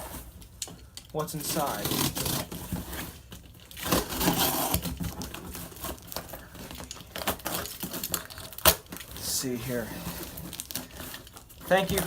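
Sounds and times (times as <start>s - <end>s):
cardboard crinkling and tearing: 1.1s - 12.0s.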